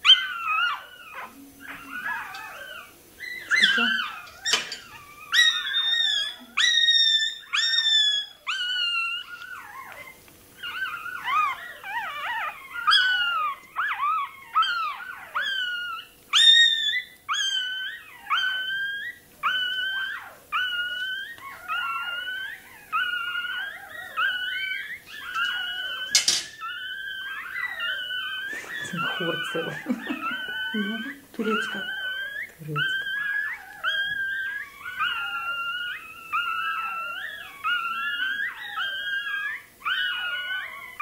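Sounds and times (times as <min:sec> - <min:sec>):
puppy yelping: 0:00.0 - 0:41.0.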